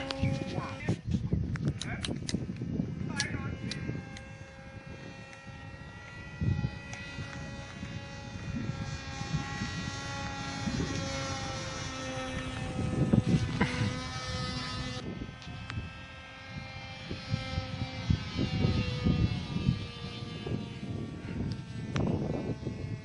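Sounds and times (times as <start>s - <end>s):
model aircraft propeller buzzing: 0.0s - 23.0s
wind buffeting microphone: 0.0s - 23.0s.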